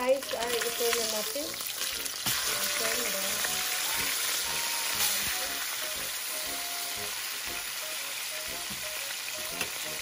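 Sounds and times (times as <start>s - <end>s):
fish sizzling in a pan: 0.0s - 10.0s.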